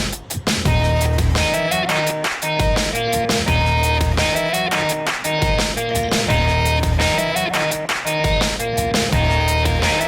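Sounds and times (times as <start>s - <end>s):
music with heavy bass and drums: 0.0s - 10.0s.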